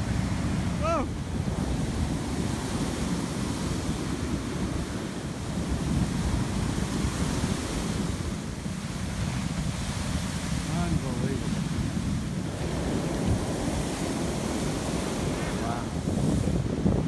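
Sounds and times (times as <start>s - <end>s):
heavy surf breaking: 0.0s - 17.0s
wind buffeting microphone: 0.0s - 17.0s.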